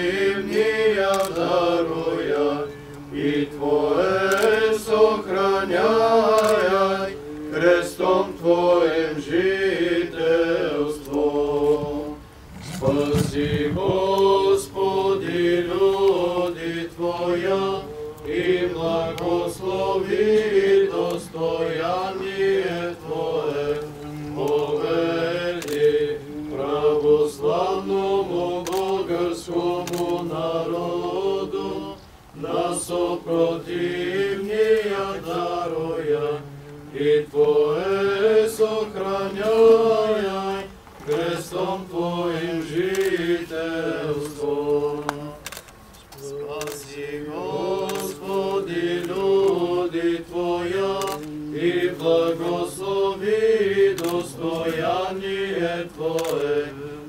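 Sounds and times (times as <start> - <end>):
men chanting a hymn: 0.0 - 57.0.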